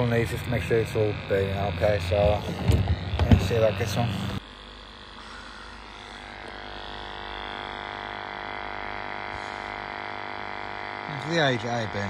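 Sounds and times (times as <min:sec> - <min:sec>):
sampling pump humming: 0:00.0 - 0:12.0.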